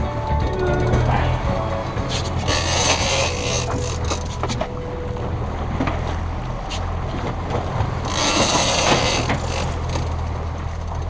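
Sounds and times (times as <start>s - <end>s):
boat engine humming: 0.0s - 11.0s
wind and water noise: 0.0s - 11.0s.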